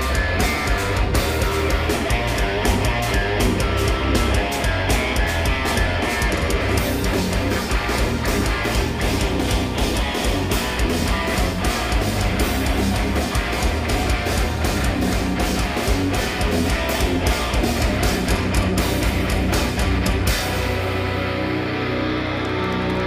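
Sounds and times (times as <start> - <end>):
bass guitar: 0.0 - 23.0
distorted electric guitars: 0.0 - 23.0
drums fast driving beat: 0.0 - 23.0.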